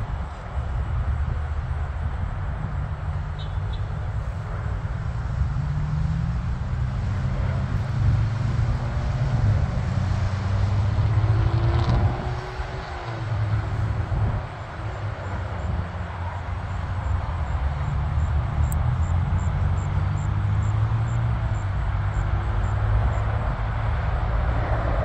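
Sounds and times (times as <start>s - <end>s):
jet engines low rumble: 0.0s - 25.0s.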